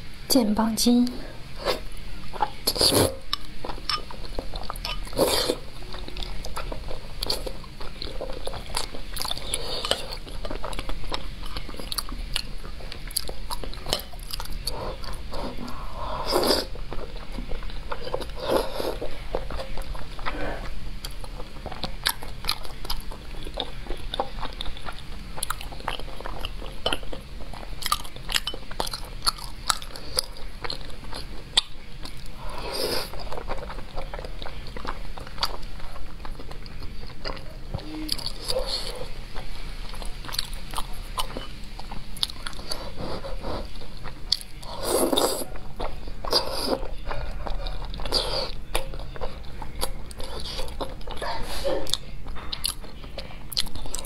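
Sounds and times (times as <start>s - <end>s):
mouth eating sounds: 1.6s - 54.0s.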